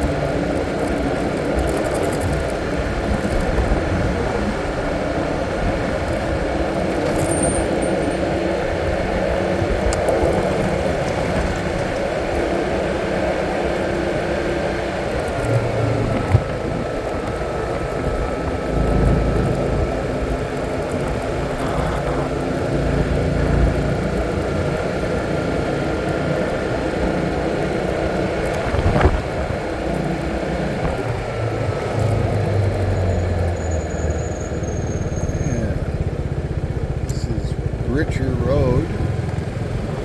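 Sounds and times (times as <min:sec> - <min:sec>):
road and wind noise: 0:00.0 - 0:40.0
vehicle engine running: 0:00.0 - 0:40.0.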